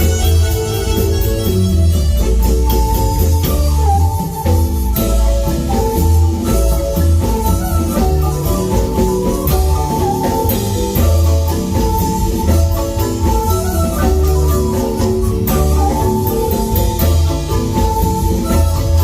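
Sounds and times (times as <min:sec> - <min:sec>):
drum strokes: 0:00.0 - 0:19.0
marimba mallet notes: 0:00.0 - 0:19.0
steady bass line: 0:00.0 - 0:19.0.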